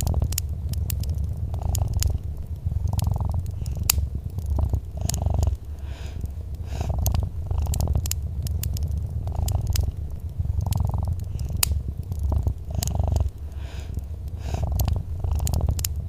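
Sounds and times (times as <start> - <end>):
cat purring: 0.0 - 16.0
wood fire popping and crackling: 0.0 - 16.0.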